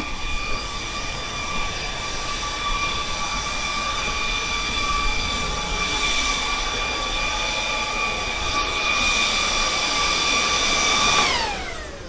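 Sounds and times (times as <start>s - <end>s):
high-pitched cooling fan whine: 0.0s - 12.0s.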